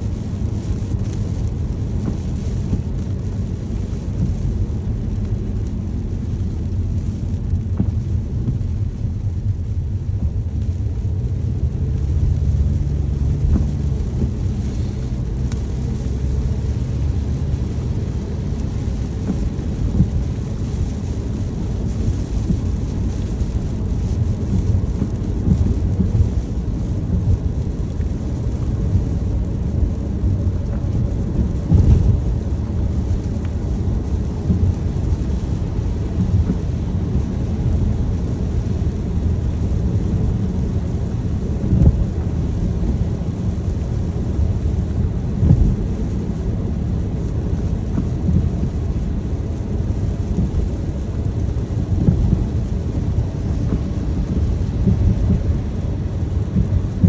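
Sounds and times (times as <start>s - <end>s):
car road and engine rumble: 0.0s - 57.0s
rain on a car: 0.0s - 57.0s.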